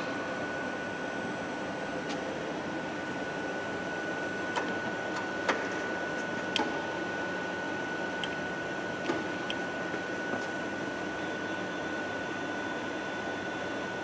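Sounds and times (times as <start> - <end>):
steady hum with high whine: 0.0 - 14.0.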